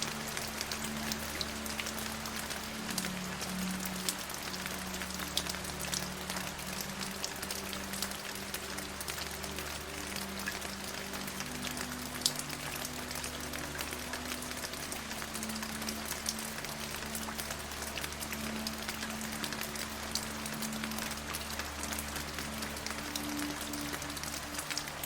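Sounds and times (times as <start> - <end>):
soft music drone: 0.0 - 25.0
steady rain falling: 0.0 - 25.0.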